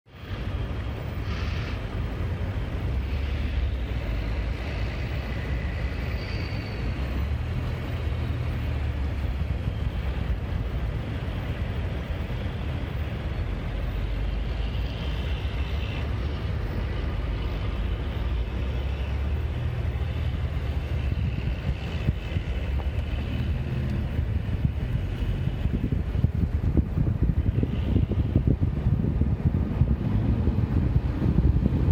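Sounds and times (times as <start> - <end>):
car cabin road rumble: 0.2 - 31.9.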